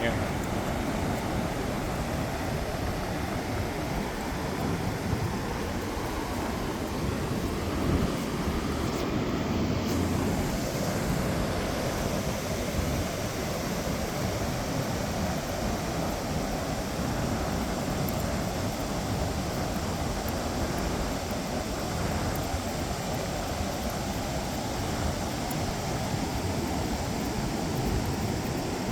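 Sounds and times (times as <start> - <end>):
ocean surf washing: 0.0 - 28.9
wind buffeting microphone: 0.0 - 28.9.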